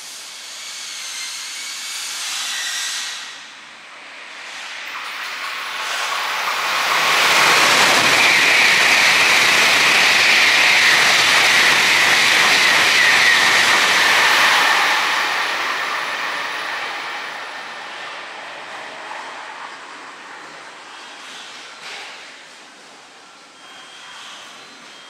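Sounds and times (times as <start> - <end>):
high-speed train passing: 2.1 - 23.3.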